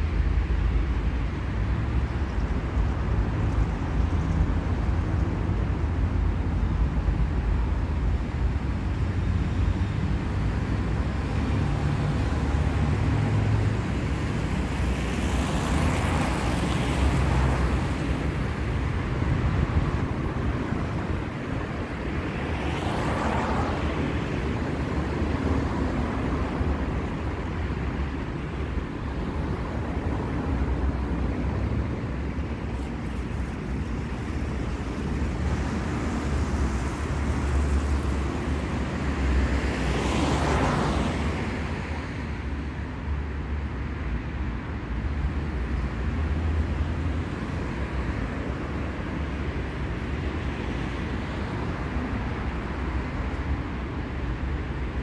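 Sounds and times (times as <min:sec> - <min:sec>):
low rumble of traffic: 0:00.0 - 0:55.0
vehicles passing close by: 0:00.0 - 0:55.0.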